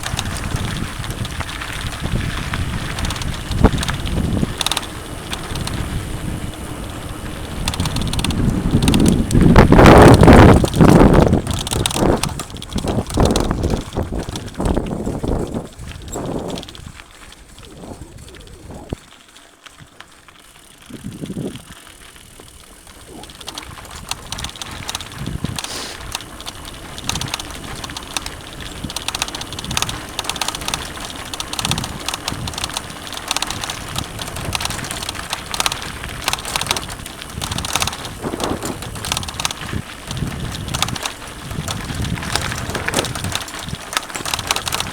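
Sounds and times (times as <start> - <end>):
wind noise on microphone: 0.0 - 19.1, 20.8 - 44.9
bike rattling over rough ground: 0.0 - 44.9.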